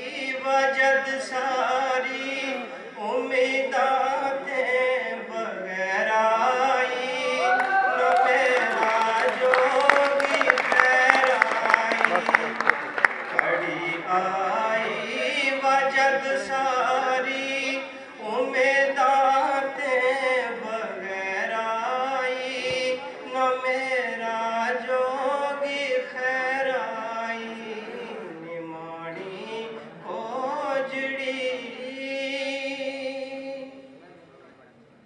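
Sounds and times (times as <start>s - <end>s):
man chanting melodically: 0.0s - 34.5s.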